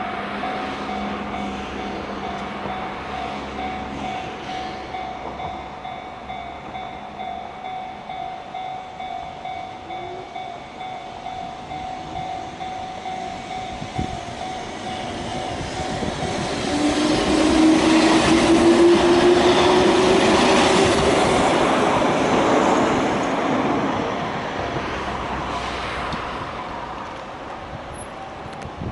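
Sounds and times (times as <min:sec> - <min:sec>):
train wheels rattling on rails: 0:00.0 - 0:28.9.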